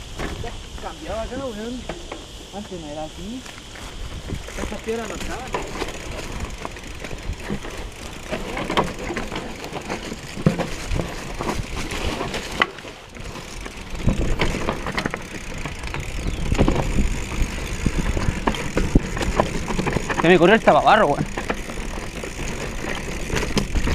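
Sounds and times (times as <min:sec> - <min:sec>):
bike clacking and rattling: 0:00.0 - 0:23.9
bike tyres crunching over stones: 0:00.0 - 0:23.9.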